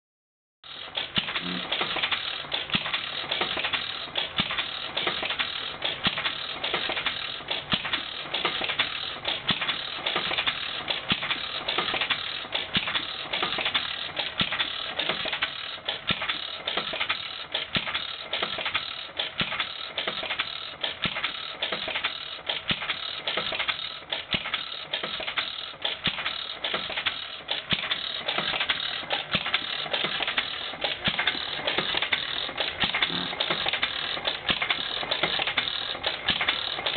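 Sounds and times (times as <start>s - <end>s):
flywheel engine clattering: 0.7s - 36.9s.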